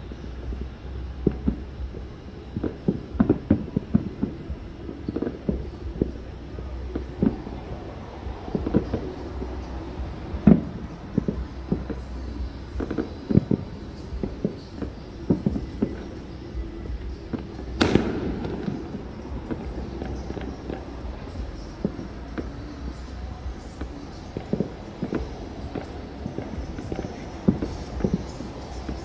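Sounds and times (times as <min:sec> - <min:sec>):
distant fireworks popping: 0:00.0 - 0:29.0
steady low rumble: 0:00.0 - 0:29.0.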